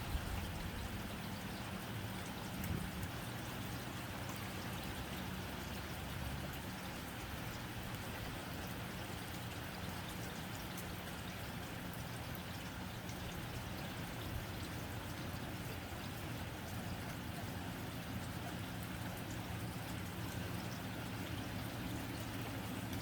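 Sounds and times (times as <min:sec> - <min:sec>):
rain on a tin roof: 0:00.0 - 0:23.0.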